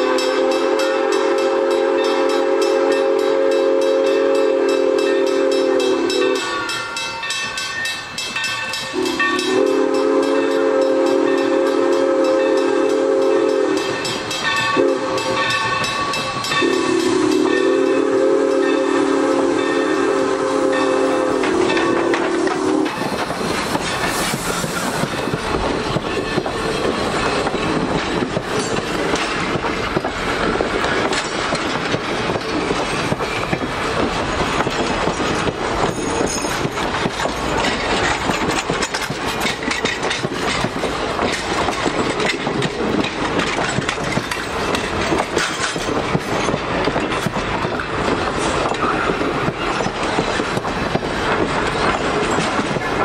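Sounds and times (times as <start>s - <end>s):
train wheels rattling on rails: 0.0s - 53.0s.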